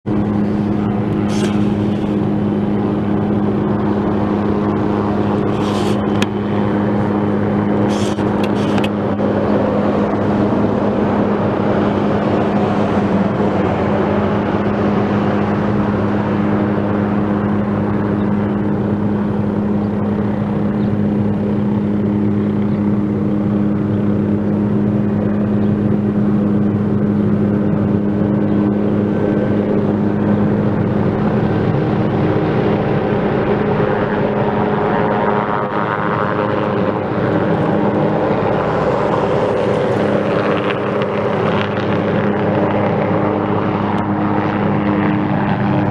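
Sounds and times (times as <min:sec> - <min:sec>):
helicopter drone: 0:00.0 - 0:45.9.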